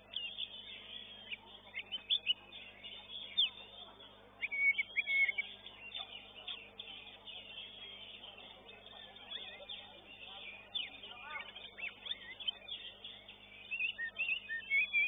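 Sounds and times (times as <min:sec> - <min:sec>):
bird singing sharp chirps: 0:00.0 - 0:15.0.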